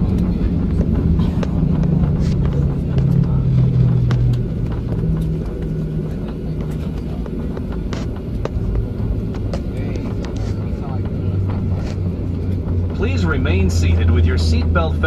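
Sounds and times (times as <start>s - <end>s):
airliner engine and runway rumble: 0.0s - 15.0s
small rattles in cabin: 0.0s - 15.0s.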